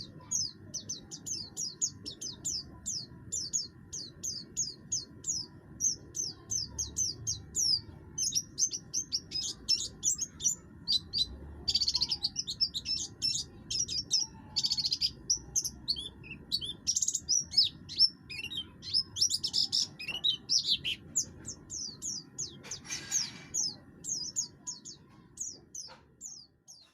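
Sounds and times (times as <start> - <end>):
bird singing chirps and trills: 0.0 - 26.9.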